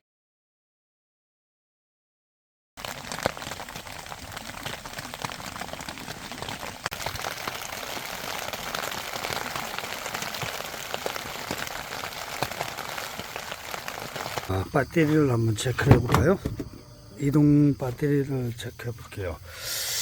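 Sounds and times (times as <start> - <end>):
rain drops pattering: 2.8 - 19.4.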